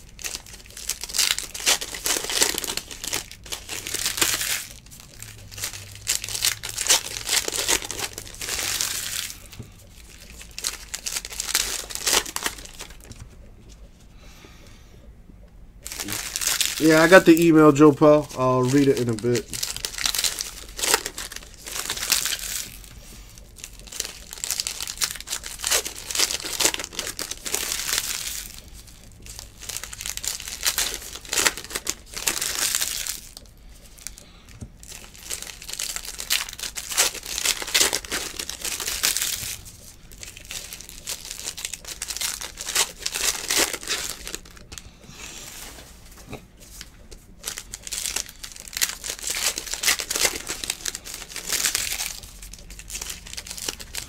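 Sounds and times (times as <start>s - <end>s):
foil wrappers crinkling and tearing: 0.0s - 13.3s, 15.8s - 54.0s.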